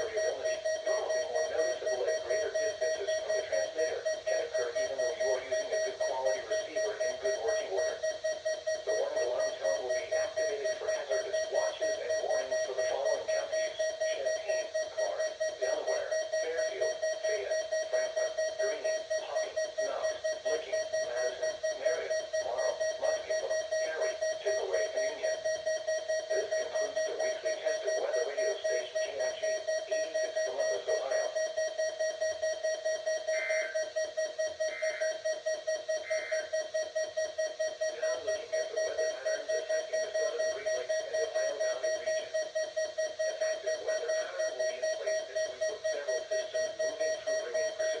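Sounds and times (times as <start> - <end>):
weather alert radio beeping: 0.0 - 48.0.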